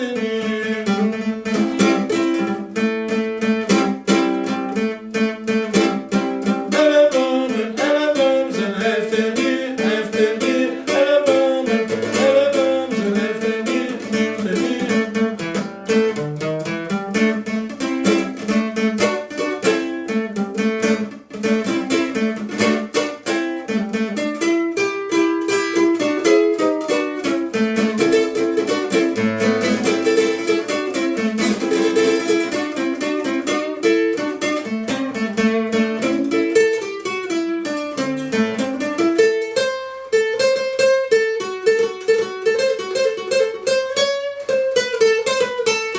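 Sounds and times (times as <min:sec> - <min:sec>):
plucked string instrument run: 0:00.0 - 0:45.9.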